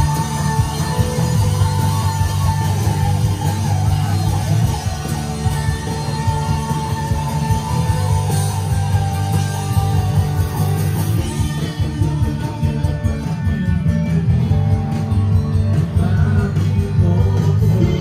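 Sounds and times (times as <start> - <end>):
guitar: 0.0 - 18.0
heavy steady bass: 0.0 - 18.0
pop-rock band playing: 0.0 - 18.0.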